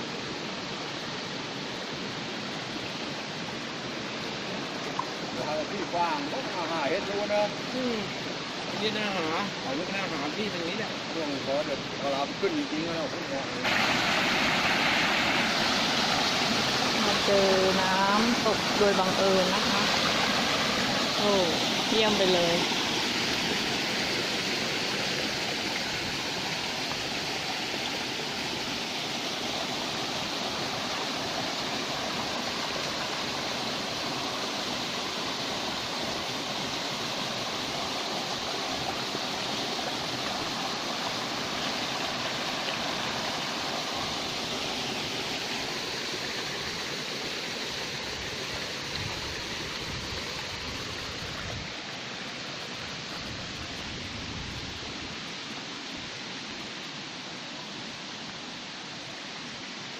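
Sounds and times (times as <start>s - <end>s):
small waterfall running: 0.0s - 59.9s.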